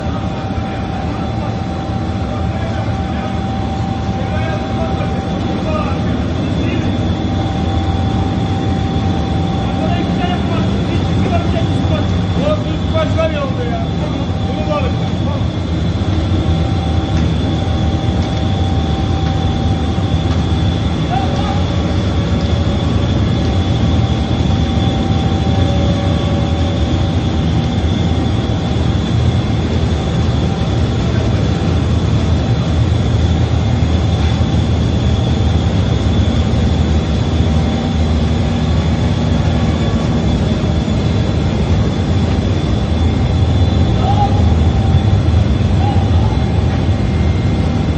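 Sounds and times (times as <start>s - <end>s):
high-pitched machine whine: 0.0s - 47.9s
machine drone with low rumble: 0.0s - 47.9s.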